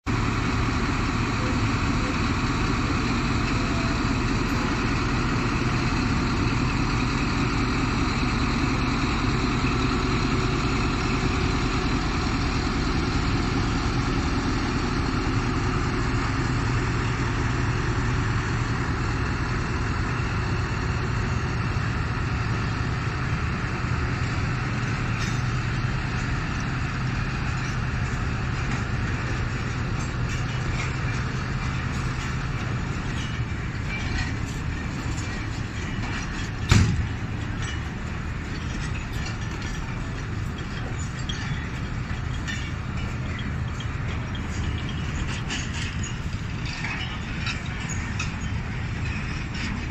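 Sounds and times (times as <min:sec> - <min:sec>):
diesel locomotive engine humming: 0:00.0 - 0:49.9
train coaches rolling by: 0:00.1 - 0:49.9.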